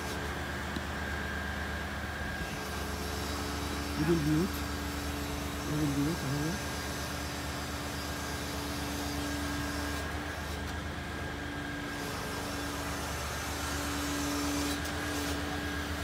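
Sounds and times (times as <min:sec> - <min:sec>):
machine drone with held tone: 0:00.0 - 0:16.0.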